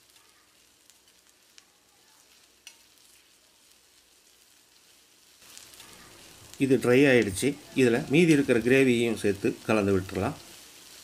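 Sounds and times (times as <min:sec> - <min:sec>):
faint sizzling on a griddle: 0:00.0 - 0:11.0.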